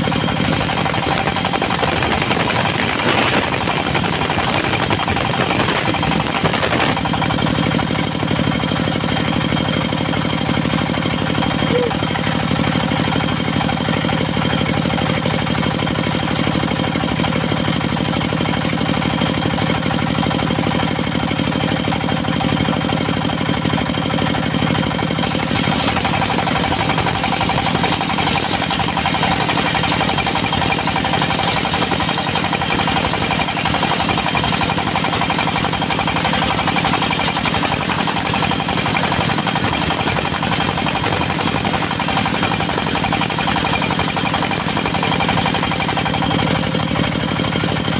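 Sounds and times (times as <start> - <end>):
diesel engine knocking: 0.0 - 47.9.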